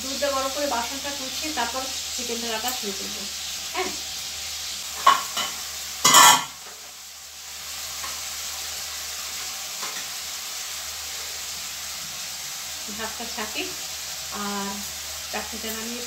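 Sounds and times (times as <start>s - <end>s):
sizzling hiss: 0.0s - 16.0s.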